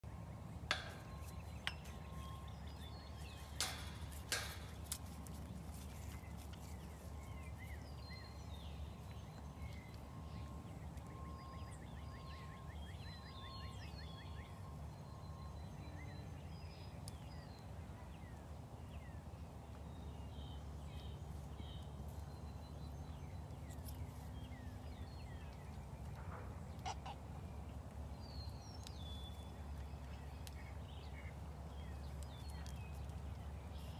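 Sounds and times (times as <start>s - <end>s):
birds chirping: 0.0s - 33.9s
low rumble of wind: 0.0s - 33.9s.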